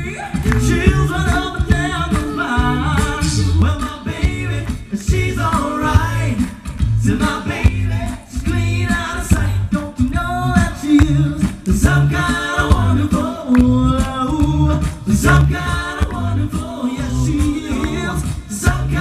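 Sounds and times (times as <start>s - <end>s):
a cappella group singing in harmony: 0.0s - 19.0s.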